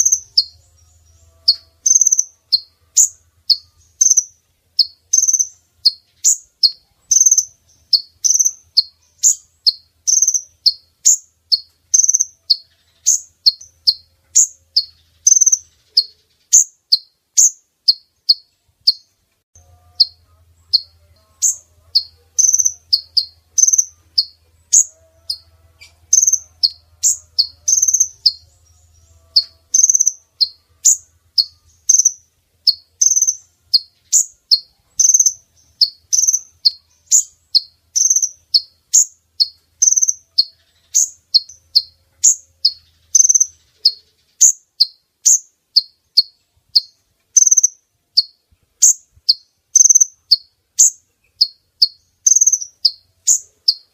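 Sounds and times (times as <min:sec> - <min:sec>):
bird high sharp chirps: 0:00.0 - 0:19.1, 0:19.9 - 0:53.9.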